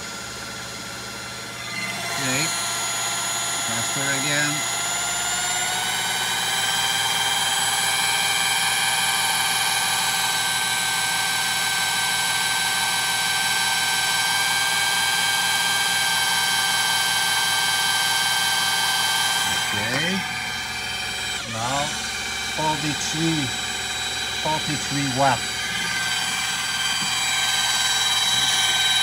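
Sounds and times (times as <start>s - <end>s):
electric drill whining: 0.0s - 29.0s.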